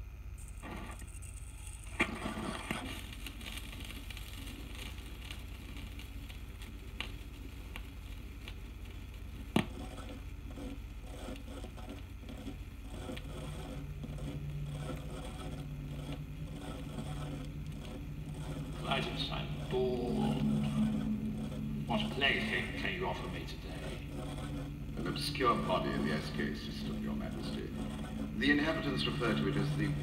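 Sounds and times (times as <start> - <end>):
vinyl record hum and hiss: 0.0 - 30.0
vinyl crackle and pops: 0.4 - 30.0.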